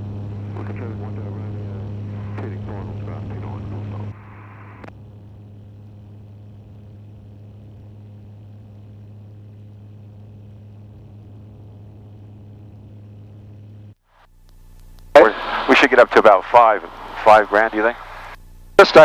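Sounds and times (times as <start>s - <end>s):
airplane engine and propeller drone: 0.0s - 19.0s.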